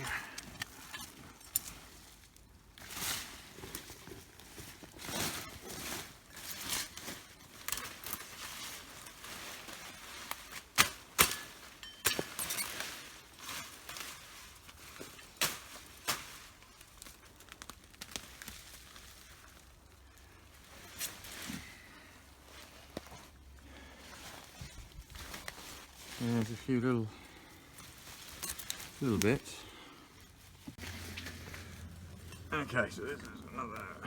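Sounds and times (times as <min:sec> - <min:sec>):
digging through damp soil: 0:00.0 - 0:34.0.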